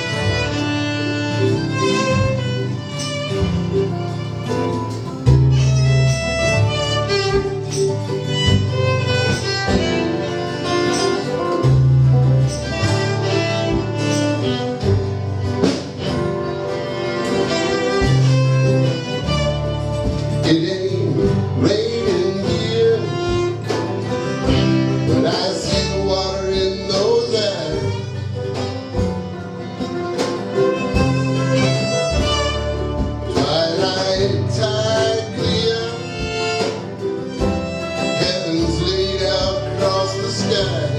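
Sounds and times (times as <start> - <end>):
fiddle melody: 0.0 - 40.9
guitar: 0.0 - 40.9
held bass notes: 0.0 - 40.9.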